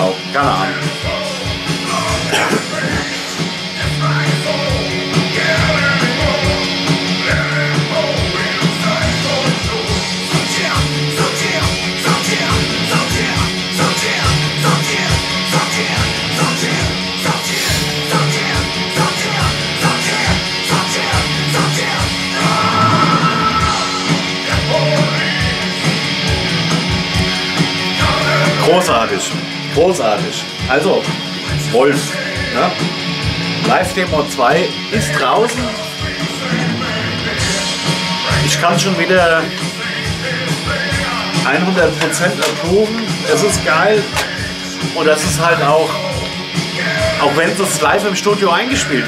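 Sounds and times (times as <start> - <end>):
horror punk music: 0.0 - 49.0.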